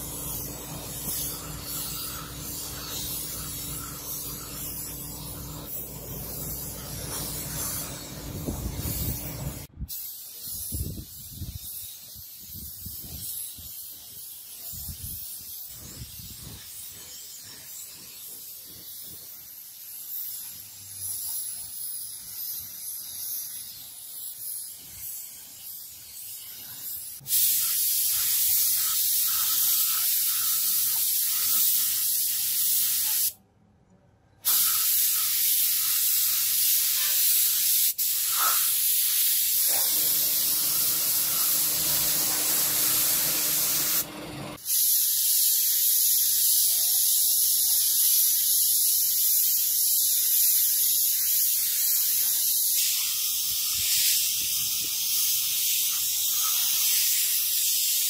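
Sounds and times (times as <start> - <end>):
spray paint hissing: 0.0 - 33.4, 34.4 - 58.0.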